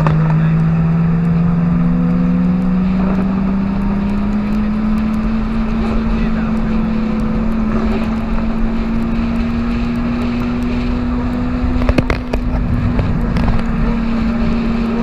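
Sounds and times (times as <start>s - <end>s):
car engine at steady revs: 0.0s - 15.0s.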